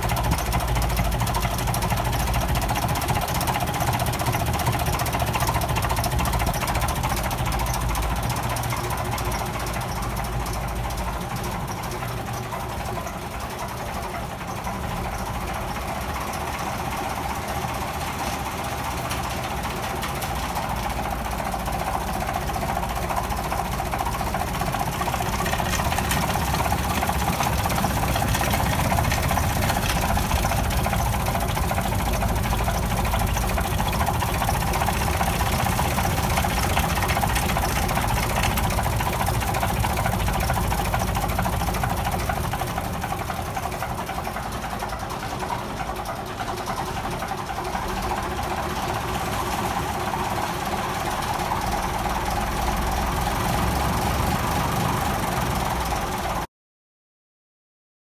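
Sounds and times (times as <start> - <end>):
diesel engine idling: 0.0 - 56.5.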